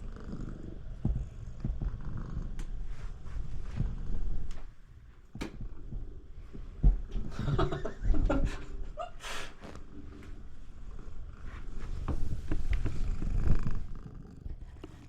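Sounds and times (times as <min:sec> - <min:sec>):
cat purring: 0:00.0 - 0:09.0, 0:09.6 - 0:15.0.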